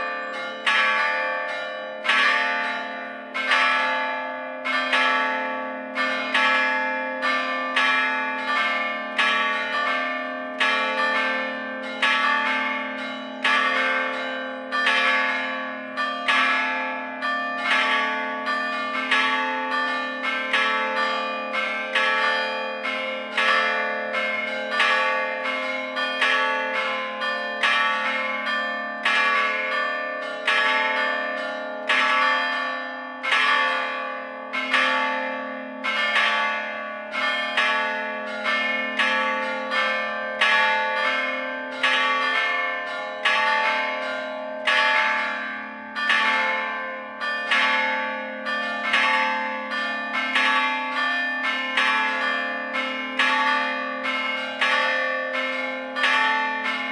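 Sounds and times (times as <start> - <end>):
church bells struck by hammers: 0.0 - 56.9.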